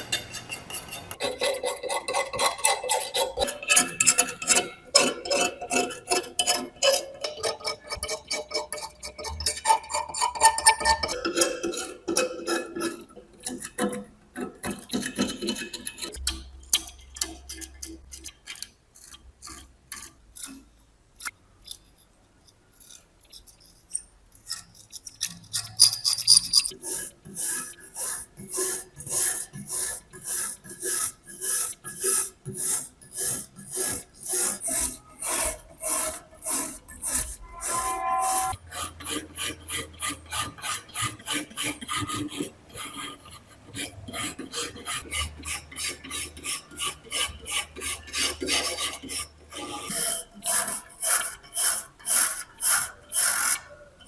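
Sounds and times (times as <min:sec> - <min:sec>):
filing strokes on metal: 0:00.0 - 0:20.6, 0:21.2 - 0:53.9.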